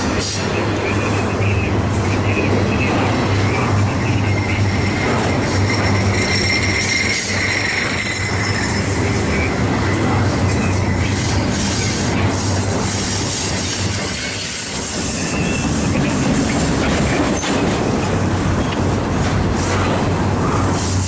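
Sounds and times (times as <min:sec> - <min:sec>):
train rolling past: 0:00.0 - 0:21.0.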